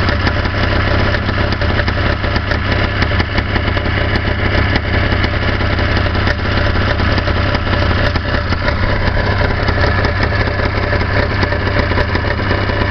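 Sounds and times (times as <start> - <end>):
snowmobile engine idling: 0.0 - 12.9.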